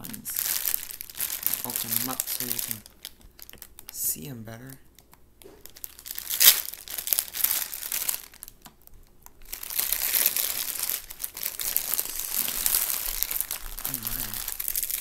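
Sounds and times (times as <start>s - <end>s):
plastic bag crinkling: 0.0s - 4.3s, 4.9s - 15.0s.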